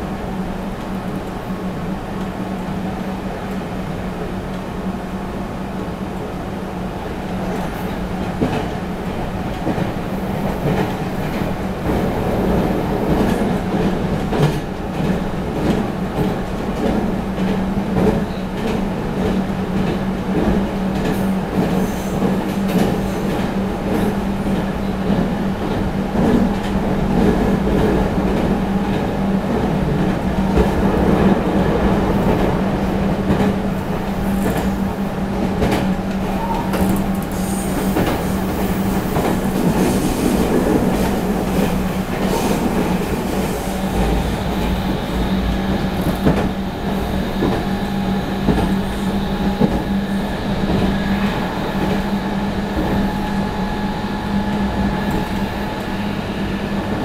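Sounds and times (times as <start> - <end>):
train running hum and rumble: 0.0 - 57.0.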